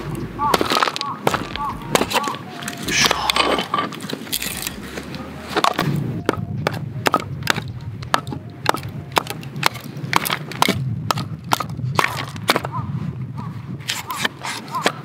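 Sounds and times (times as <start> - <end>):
dry wood cracking: 0.0 - 12.8.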